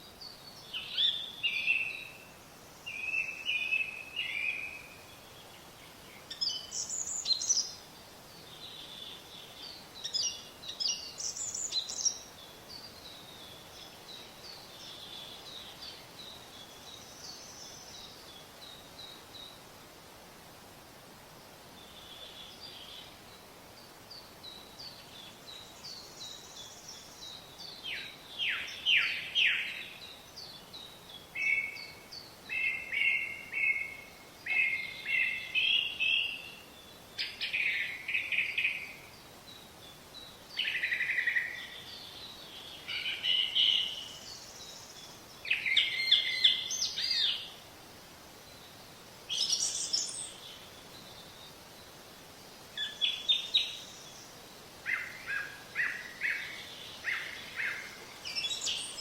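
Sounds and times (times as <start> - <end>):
faint steady hiss: 0.0 - 59.0
songbirds chirping: 0.0 - 59.0.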